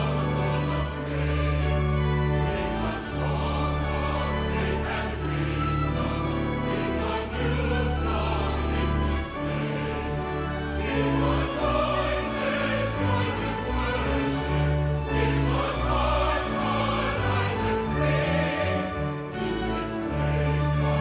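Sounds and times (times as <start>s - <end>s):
choir singing with orchestra: 0.0s - 21.0s.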